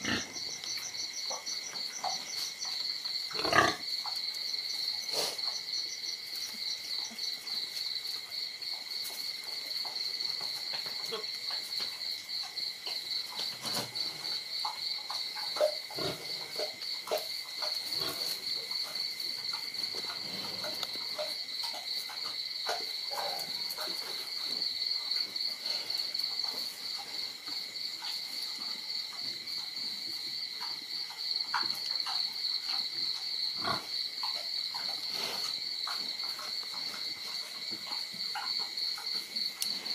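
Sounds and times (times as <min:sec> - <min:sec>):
crickets chirping: 0:00.0 - 0:39.9
animals scuffling on concrete: 0:06.4 - 0:39.9.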